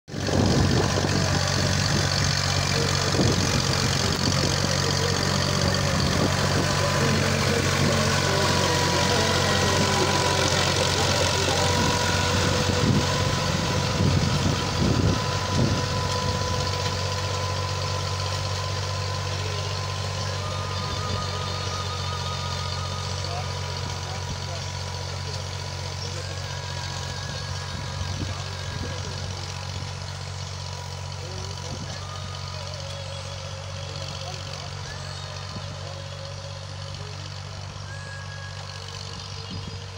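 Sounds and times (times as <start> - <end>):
tractor engine running: 0.1 - 39.9.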